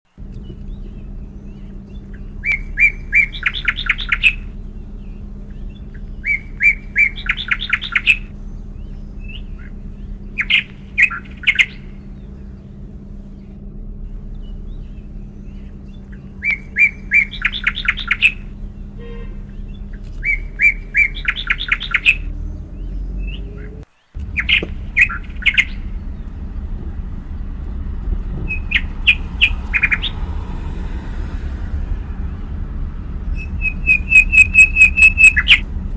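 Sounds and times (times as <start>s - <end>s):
steady low rumble: 0.1s - 35.9s
songbird singing with trill: 0.2s - 26.6s, 28.2s - 31.6s, 33.2s - 35.7s.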